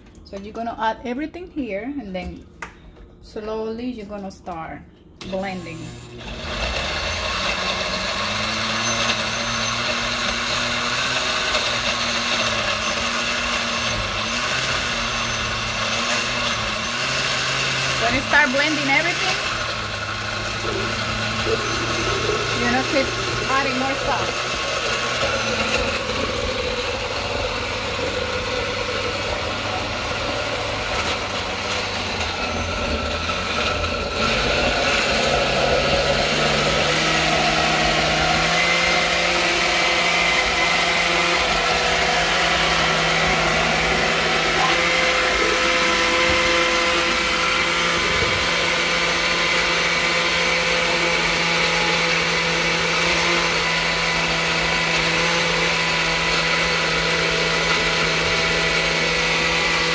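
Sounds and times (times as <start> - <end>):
blender motor running: 5.2 - 59.9.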